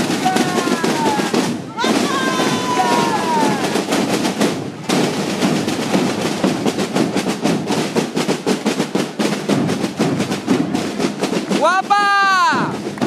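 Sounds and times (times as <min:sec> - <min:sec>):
marching snare drums: 0:00.0 - 0:13.0.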